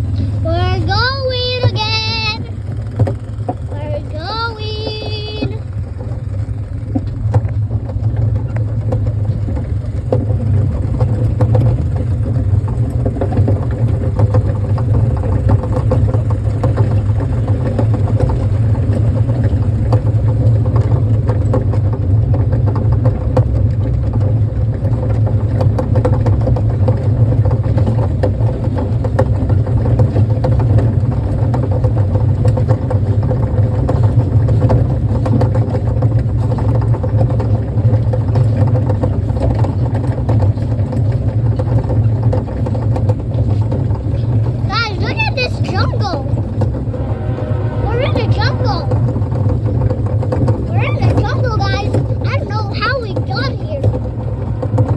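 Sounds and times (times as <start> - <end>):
faint rattling: 0.0 - 21.1, 28.4 - 54.9
kiddie train engine rumble: 0.0 - 54.9.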